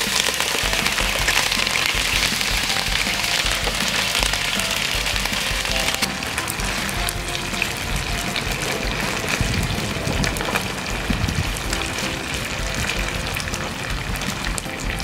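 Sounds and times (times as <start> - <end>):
background music: 0.0 - 15.0
frying in hot oil with pops: 0.0 - 15.0.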